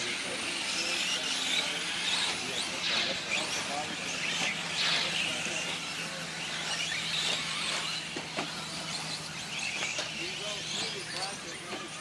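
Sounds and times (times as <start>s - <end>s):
electric rc truck motors whining: 0.0s - 12.0s.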